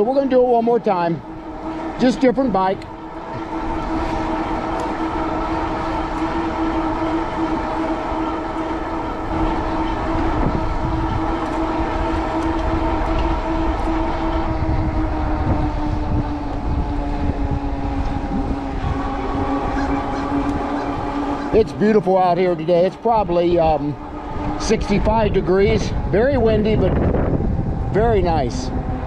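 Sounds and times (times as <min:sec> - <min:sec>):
e-bike tyre and motor hum: 0:00.0 - 0:29.0
wind rumbling on microphone: 0:00.0 - 0:29.0.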